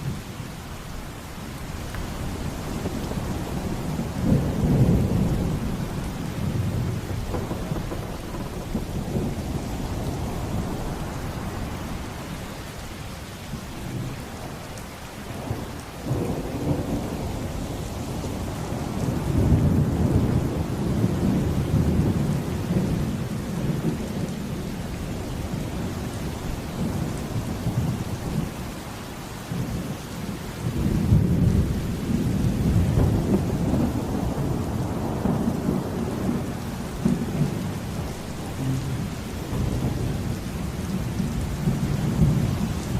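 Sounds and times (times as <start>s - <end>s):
steady rain: 0.0s - 42.9s
rolling thunder: 1.8s - 12.5s, 15.3s - 28.7s, 30.6s - 42.9s.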